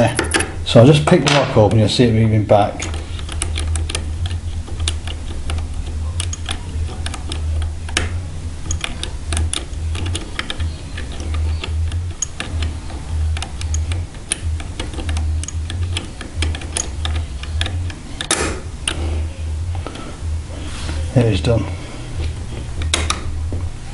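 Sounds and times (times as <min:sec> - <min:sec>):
low hum: 0:00.0 - 0:23.9.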